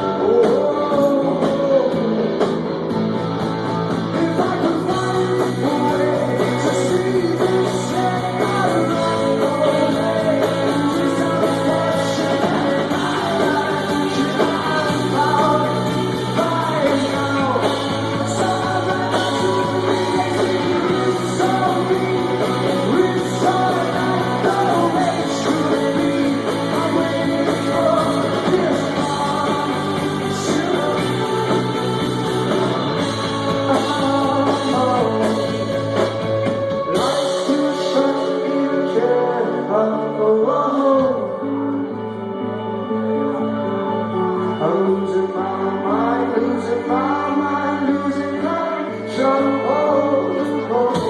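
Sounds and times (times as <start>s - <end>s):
indie rock band playing: 0.0s - 51.0s
male lead singer: 0.0s - 51.0s.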